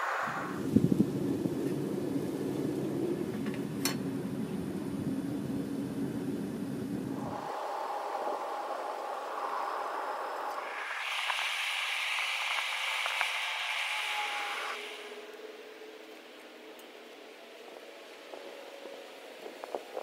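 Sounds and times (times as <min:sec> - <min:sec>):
furnace rumbling and hissing: 0:00.0 - 0:20.0.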